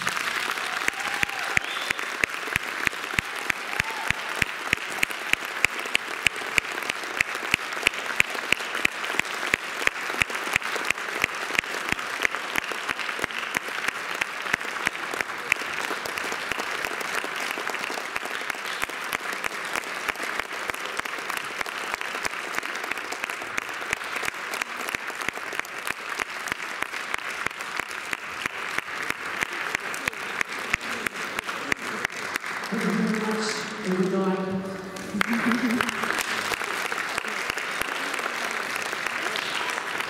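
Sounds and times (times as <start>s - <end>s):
nearby person clapping steadily: 0.0s - 33.4s, 35.0s - 40.0s
audience applauding: 0.0s - 40.0s.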